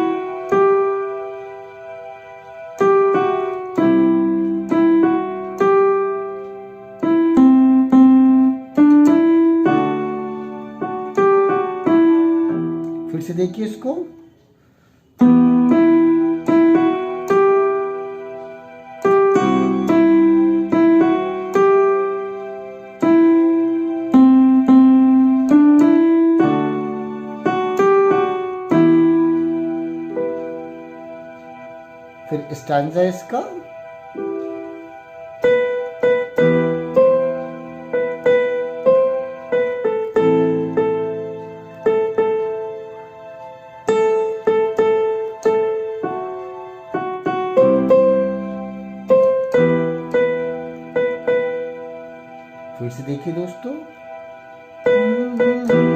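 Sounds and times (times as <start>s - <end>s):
keyboard piano slow melody: 0.0s - 55.9s.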